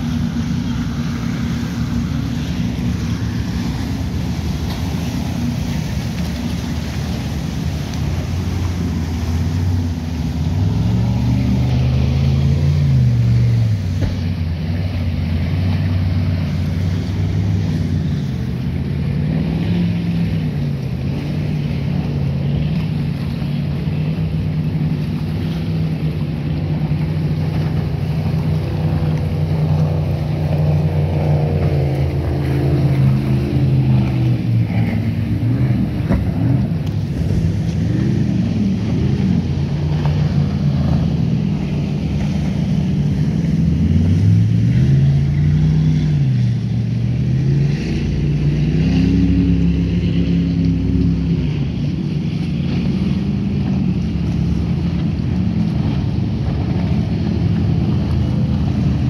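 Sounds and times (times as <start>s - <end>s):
choppy water: 0.0s - 59.0s
motorboat engines droning: 0.0s - 59.0s
passing boat engine: 0.0s - 59.0s
wind on microphone: 0.0s - 59.0s.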